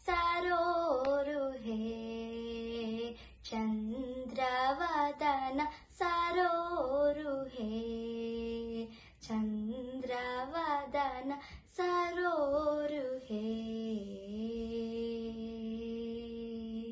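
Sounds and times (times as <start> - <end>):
girl singing devotional song: 0.0 - 16.9.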